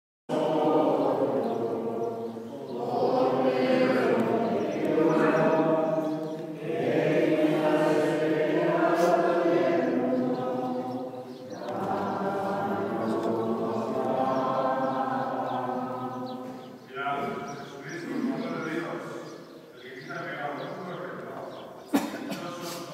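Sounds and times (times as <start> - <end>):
congregation singing a hymn: 0.3 - 22.9.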